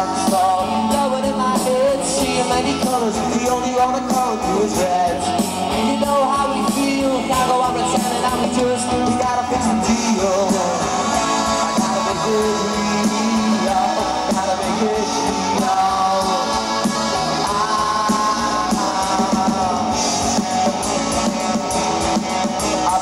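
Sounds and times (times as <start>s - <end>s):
man singing lead vocal: 0.0s - 21.8s, 22.4s - 23.0s
drums: 0.0s - 23.0s
electric guitars: 0.0s - 23.0s.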